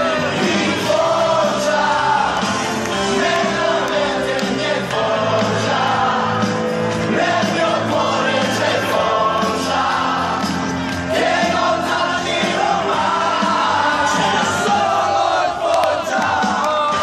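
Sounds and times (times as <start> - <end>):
crowd singing and shouting: 0.0 - 17.0
loud music: 0.0 - 17.0.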